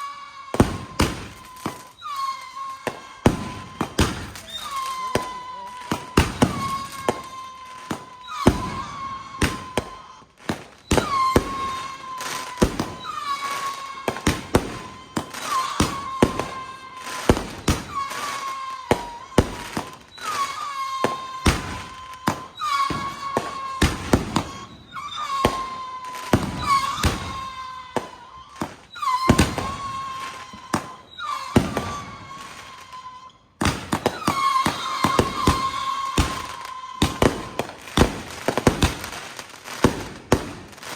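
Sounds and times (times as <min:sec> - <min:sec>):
firework bangs: 0:00.0 - 0:40.9
firework crackling: 0:00.0 - 0:40.9
whistling firework shots: 0:00.0 - 0:40.9.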